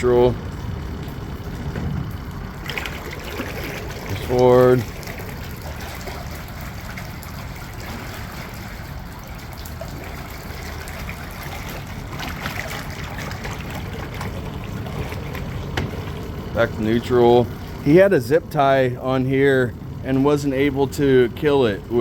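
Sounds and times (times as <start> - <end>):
outboard motor running: 0.0 - 22.0
water trickling and splashing: 0.0 - 22.0.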